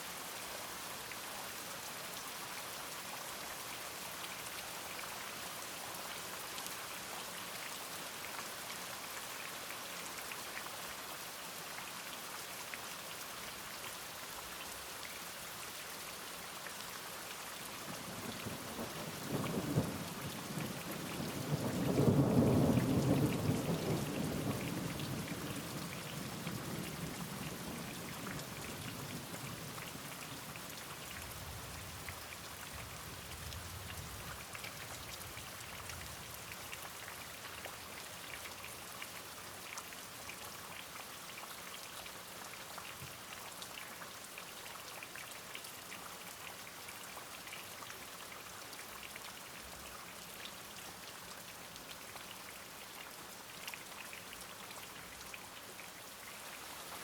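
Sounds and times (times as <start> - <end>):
raindrops ticking on a surface: 2.8 - 57.0.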